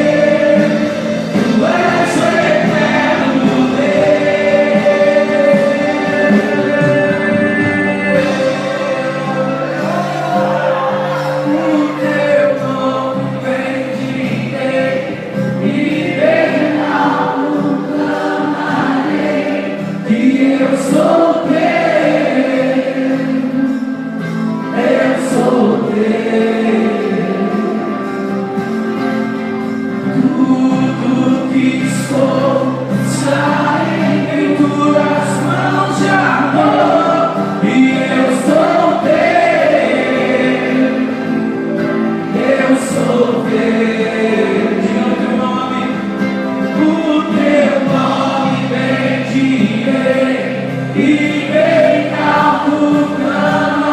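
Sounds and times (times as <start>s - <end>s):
group of voices singing: 0.0s - 53.9s
sustained instrumental backing: 0.0s - 53.9s.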